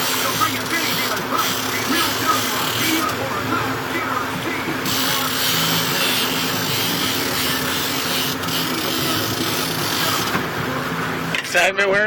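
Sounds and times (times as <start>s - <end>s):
boat engine hum: 0.0s - 12.0s.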